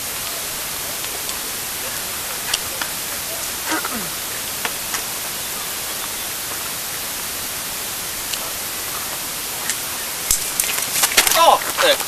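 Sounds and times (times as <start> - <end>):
faint clicks: 0.0 - 7.6, 8.2 - 12.0
static hiss: 0.0 - 12.0.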